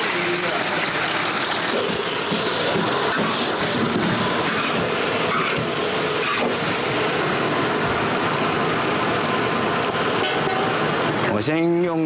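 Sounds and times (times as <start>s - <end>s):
pork sizzling in hot oil: 0.0s - 11.6s.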